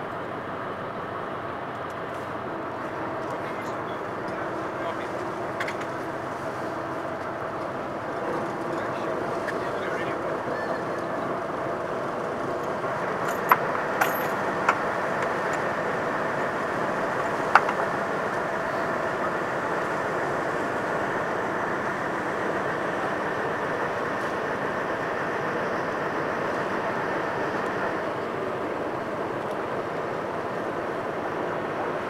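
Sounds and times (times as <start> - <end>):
boat engines droning: 0.0 - 32.0.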